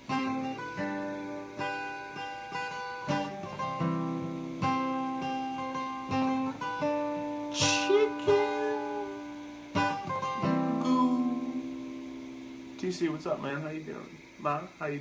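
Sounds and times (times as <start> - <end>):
acoustic guitar strumming: 0.0 - 14.8.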